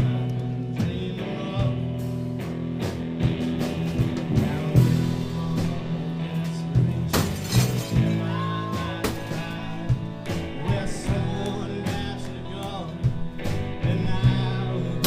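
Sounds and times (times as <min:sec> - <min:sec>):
live rock music: 0:00.0 - 0:15.0.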